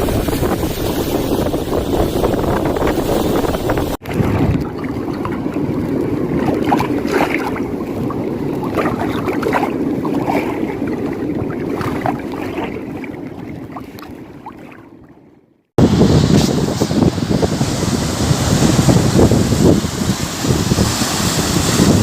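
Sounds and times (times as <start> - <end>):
wind on microphone: 0.0 - 14.6, 15.8 - 22.0
sea water splashing and lapping: 0.0 - 22.0.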